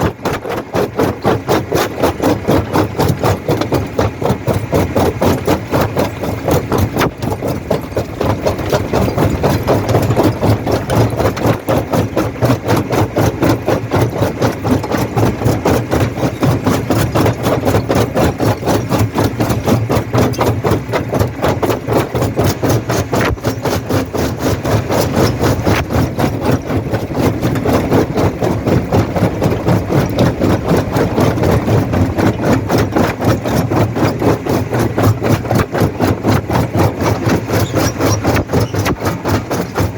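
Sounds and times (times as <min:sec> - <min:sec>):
rock crusher droning: 0:00.0 - 0:39.9.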